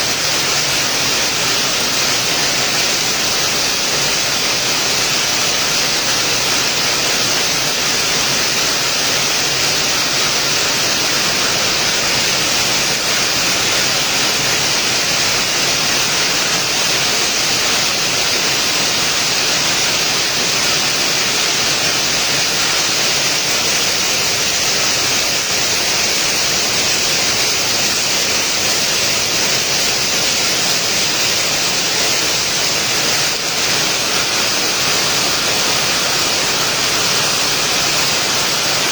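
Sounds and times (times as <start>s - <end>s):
heavy rainfall hiss: 0.0s - 38.9s.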